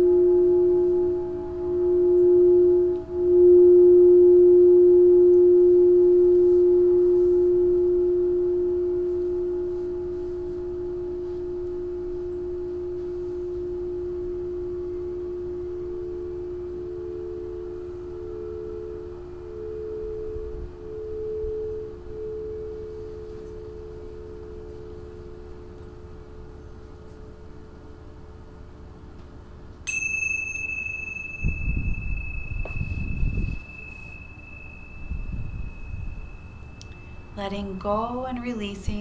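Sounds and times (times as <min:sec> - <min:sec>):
pulsing higher bowl tone: 0:00.0 - 0:28.8, 0:29.9 - 0:39.0
singing bowl low tone: 0:00.0 - 0:29.1, 0:29.9 - 0:39.0.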